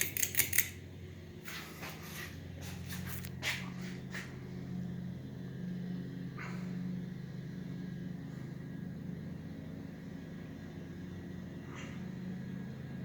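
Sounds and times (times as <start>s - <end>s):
ceiling fan motor humming: 0.0s - 13.0s.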